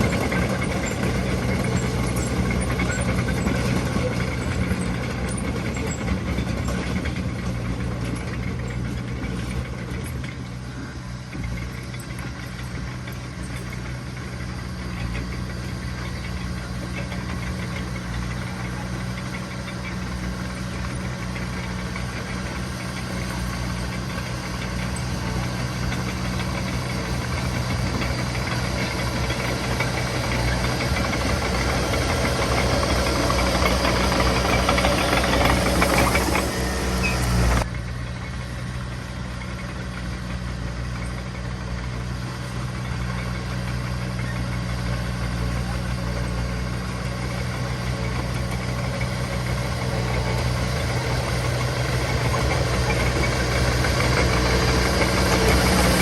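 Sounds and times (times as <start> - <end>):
heavy machinery diesel engine running: 0.0 - 56.0.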